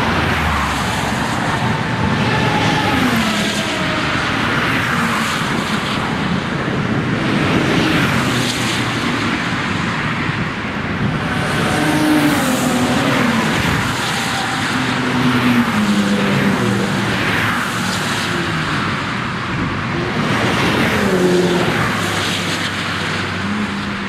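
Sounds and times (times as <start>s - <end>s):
race cars driving past: 0.0s - 24.0s.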